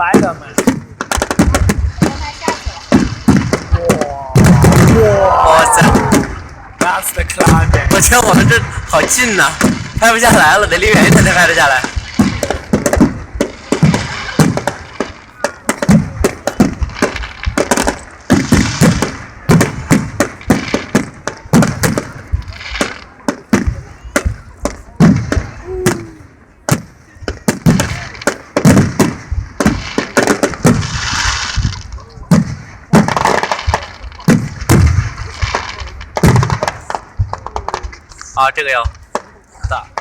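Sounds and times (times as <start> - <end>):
fireworks bangs and cracks: 0.0 - 40.0
fireworks crackling: 0.0 - 40.0.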